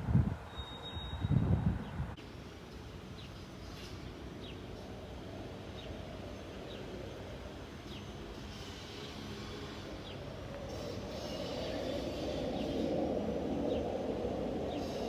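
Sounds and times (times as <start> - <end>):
distant freight train rumble: 0.0 - 15.0.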